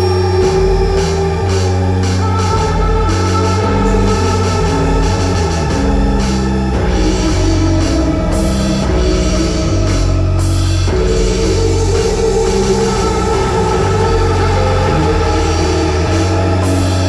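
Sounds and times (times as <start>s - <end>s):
drum kit playing: 0.0s - 17.0s
sustained low notes: 0.0s - 17.0s.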